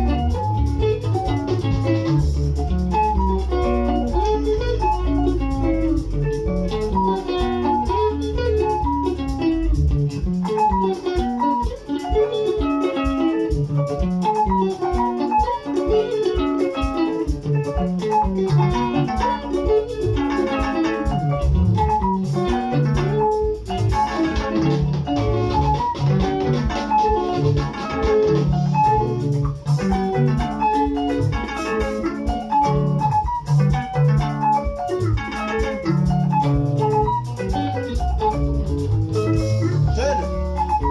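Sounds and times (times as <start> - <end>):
bass line: 0.0 - 40.9
plucked guitar lines: 0.0 - 40.9
steady drum beat: 0.0 - 40.9.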